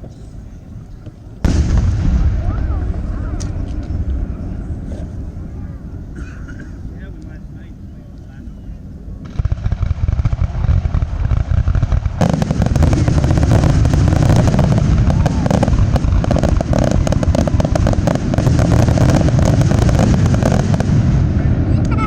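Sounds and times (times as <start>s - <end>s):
fireworks bangs and crackling: 1.0s - 7.6s, 9.2s - 22.0s.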